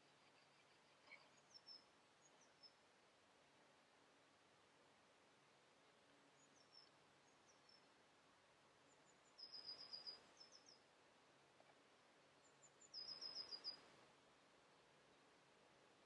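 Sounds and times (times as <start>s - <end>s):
songbird singing: 0.0s - 3.1s, 5.8s - 16.0s.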